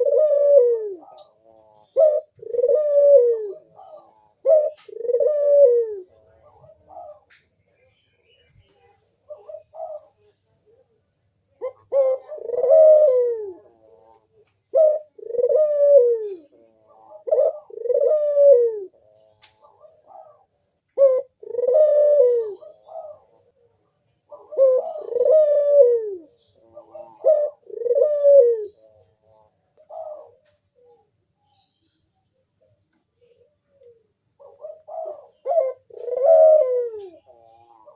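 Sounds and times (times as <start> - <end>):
dove cooing: 0.0 - 31.6, 32.3 - 37.9.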